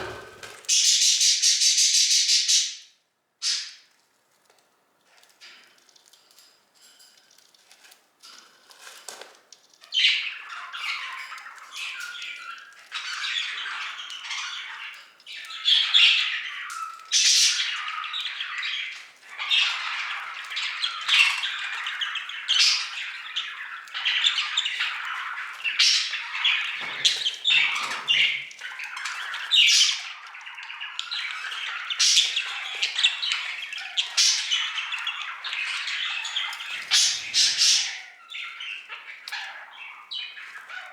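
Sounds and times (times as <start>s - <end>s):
budgerigars chattering and squawking: 0.0s - 2.8s, 9.9s - 40.9s
sharp bird calls: 0.0s - 3.9s, 9.9s - 40.9s.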